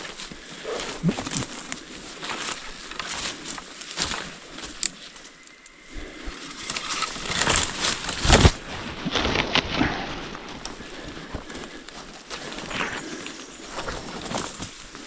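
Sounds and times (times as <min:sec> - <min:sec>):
brush crackling: 0:00.0 - 0:15.0
footsteps crunching: 0:00.0 - 0:15.0
twigs snapping: 0:00.0 - 0:15.0.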